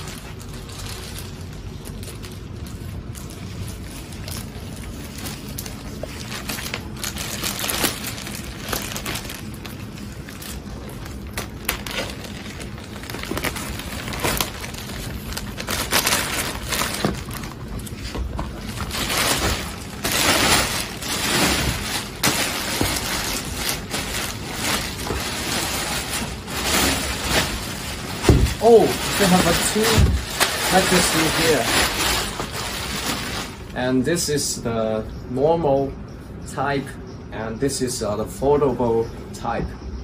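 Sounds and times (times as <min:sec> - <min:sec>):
scissors cutting plastic wrapping: 0:00.0 - 0:33.6
plastic wrapping crinkling: 0:00.0 - 0:33.8.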